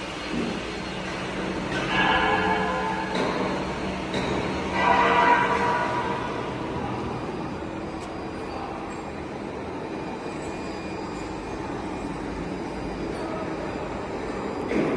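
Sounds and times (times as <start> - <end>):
factory machinery rumble and hiss: 0.0 - 14.9.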